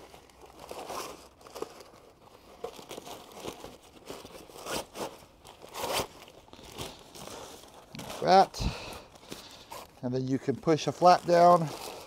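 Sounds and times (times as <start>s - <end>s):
plastic cover scraping into bag: 0.0s - 12.0s.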